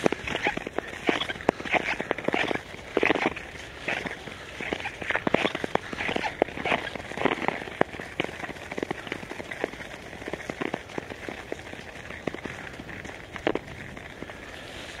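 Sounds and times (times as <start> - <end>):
snowy ice crunching underfoot: 0.0 - 15.0.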